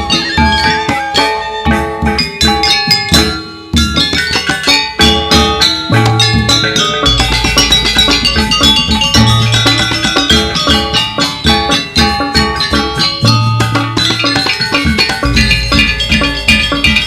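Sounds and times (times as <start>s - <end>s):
drums: 0.0s - 17.0s
gamelan ensemble playing: 0.0s - 17.0s.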